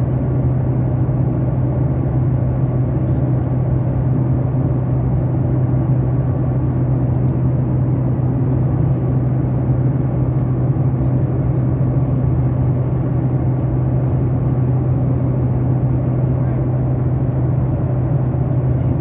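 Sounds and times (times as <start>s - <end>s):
airliner cabin rumble: 0.0s - 19.0s
constant low hum: 0.0s - 19.0s.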